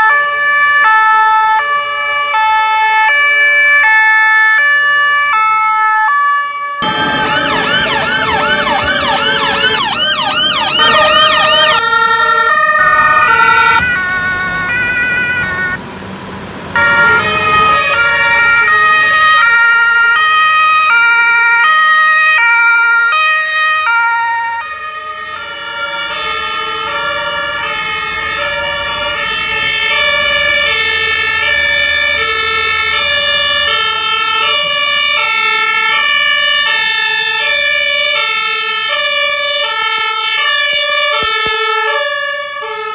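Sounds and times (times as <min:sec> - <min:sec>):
rising and falling siren wail: 0:00.0 - 0:15.8, 0:16.7 - 0:42.9
two-tone sirens: 0:00.0 - 0:42.9.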